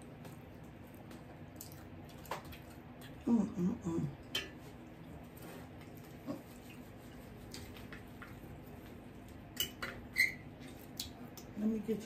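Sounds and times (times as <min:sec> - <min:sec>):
soft eating clicks and taps: 0:00.0 - 0:03.2, 0:04.2 - 0:11.6.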